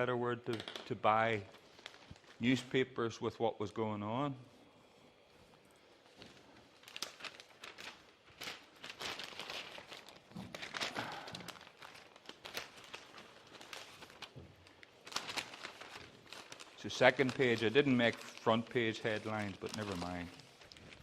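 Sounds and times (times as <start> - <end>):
newspaper pages rustling: 1.1 - 2.8, 5.1 - 21.0.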